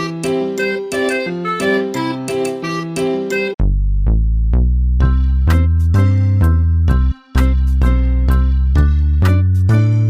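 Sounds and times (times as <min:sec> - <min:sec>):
upbeat music with bass and keyboard: 0:00.0 - 0:10.0.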